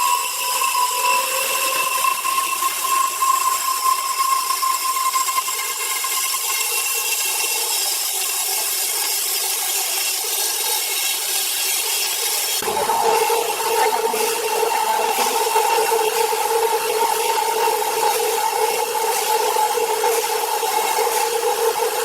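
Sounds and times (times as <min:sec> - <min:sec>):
power saw cutting log: 0:00.0 - 0:22.0.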